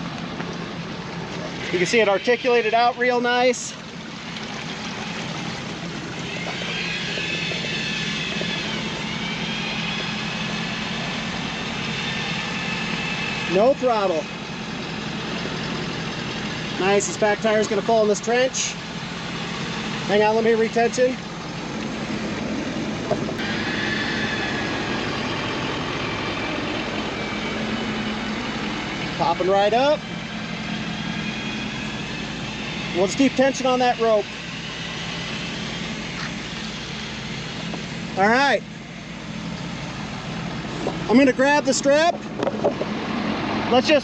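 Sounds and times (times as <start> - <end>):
low hum: 0.0 - 43.8
motor whine: 0.0 - 44.0
truck engine running: 0.0 - 44.0.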